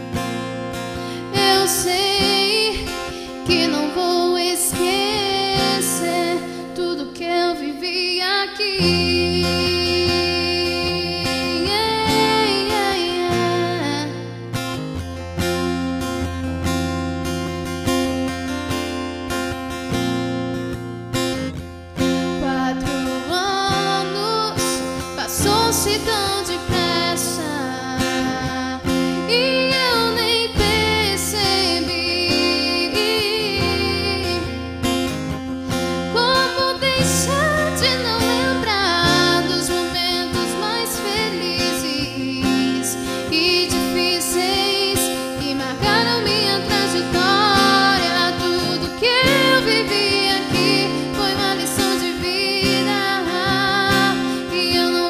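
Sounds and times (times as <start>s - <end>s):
person singing with vibrato: 0.0s - 16.1s, 21.9s - 55.0s
strummed acoustic guitar: 0.0s - 55.0s.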